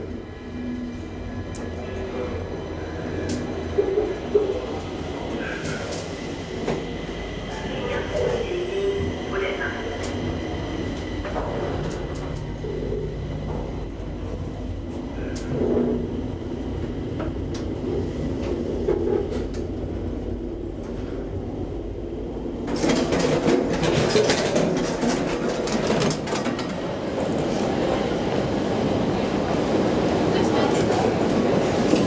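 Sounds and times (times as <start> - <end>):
elevator car rumble and hum: 0.0 - 32.0
metro train rushing: 0.0 - 32.0.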